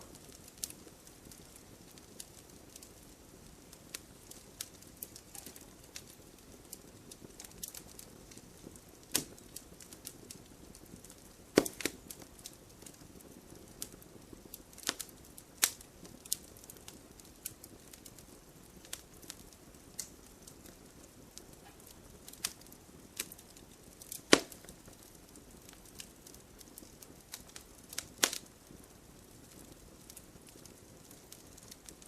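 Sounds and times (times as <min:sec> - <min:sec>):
faint steady hiss: 0:00.0 - 0:32.0
firewood crackling and popping: 0:00.0 - 0:32.0.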